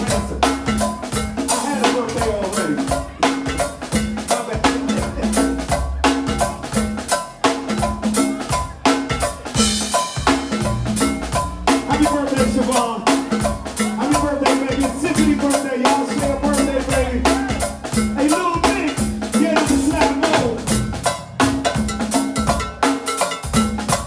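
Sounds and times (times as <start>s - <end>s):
drum kit beat: 0.0s - 24.0s
pitched melody line: 0.0s - 24.0s.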